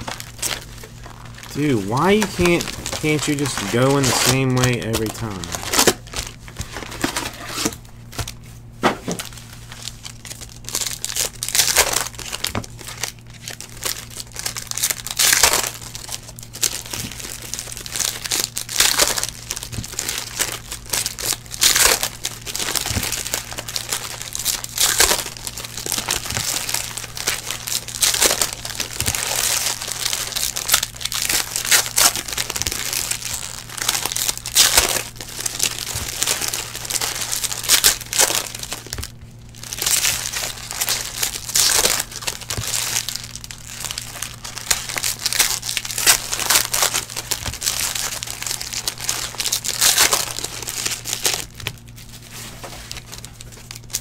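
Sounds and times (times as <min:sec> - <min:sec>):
foil wrappers crinkling and tearing: 0:00.0 - 0:54.0
steady low hum: 0:00.0 - 0:54.0.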